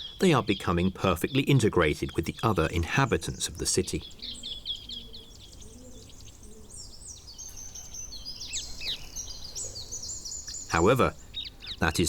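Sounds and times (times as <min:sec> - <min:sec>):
parakeets chirping and screeching: 0:00.0 - 0:12.0.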